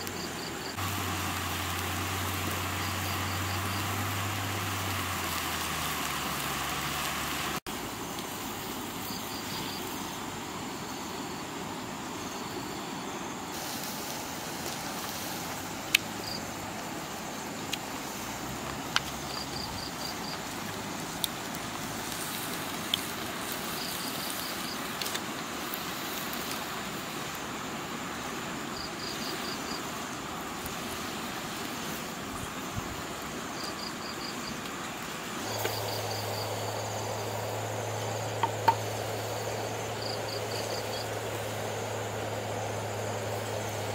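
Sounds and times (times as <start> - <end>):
wood fire crackling: 0.0 - 10.7, 13.5 - 43.9
insect chirping trills: 0.0 - 43.9
sauce simmering hiss: 0.0 - 43.9.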